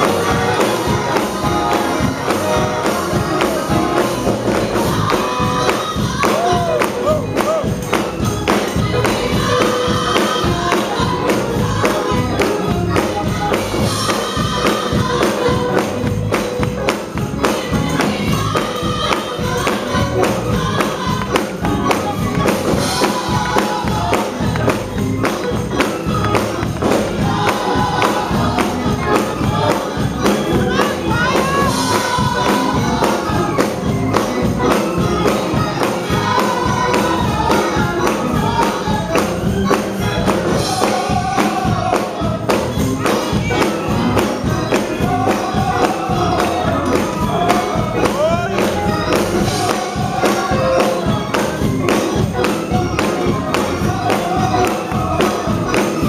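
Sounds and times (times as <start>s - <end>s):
gospel choir singing: 0.0s - 56.0s
rhythmic beat: 0.0s - 56.0s.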